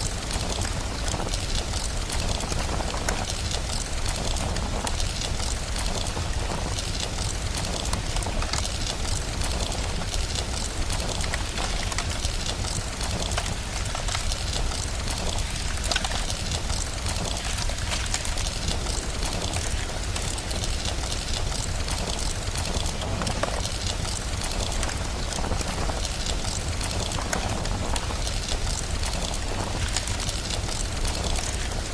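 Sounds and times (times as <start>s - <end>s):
fireplace crackling and popping: 0.0s - 31.9s
steady rain: 0.0s - 31.9s.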